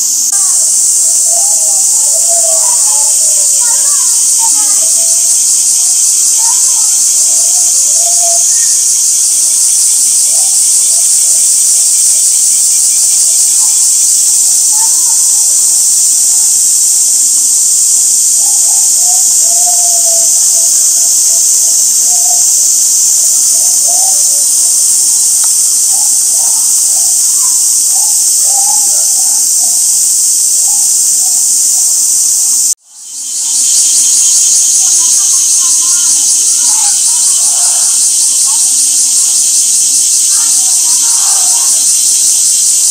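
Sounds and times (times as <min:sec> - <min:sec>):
cicadas droning: 0:00.0 - 0:42.9
faint human voices: 0:00.0 - 0:42.9.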